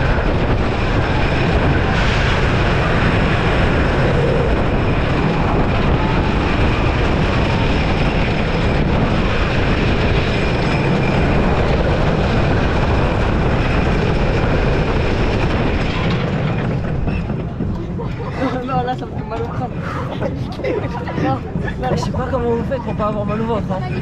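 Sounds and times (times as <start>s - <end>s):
roller coaster rumbling on wooden track: 0.0s - 24.0s.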